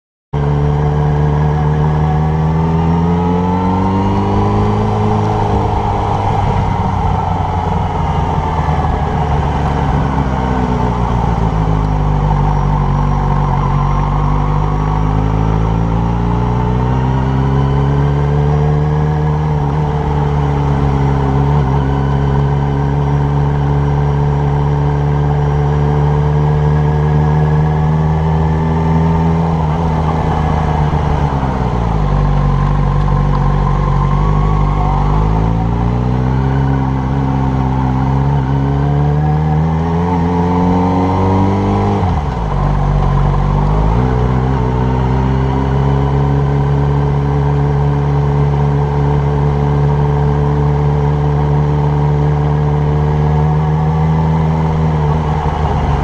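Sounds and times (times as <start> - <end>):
motorcycle engine running: 0.4 - 56.0.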